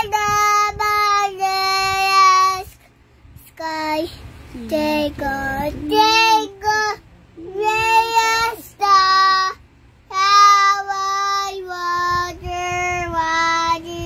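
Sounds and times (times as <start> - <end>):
girl singing: 0.0 - 2.8, 3.4 - 14.0.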